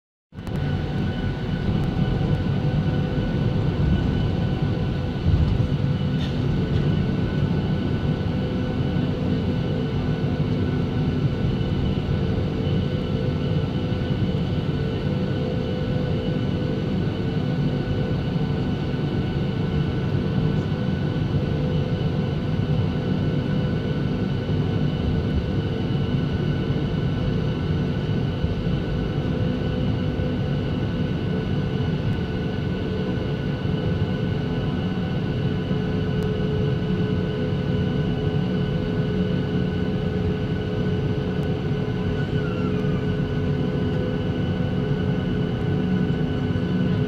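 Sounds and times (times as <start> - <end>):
aircraft cabin rumble: 0.4 - 22.2, 22.8 - 47.0
jet engines whining: 0.4 - 47.0.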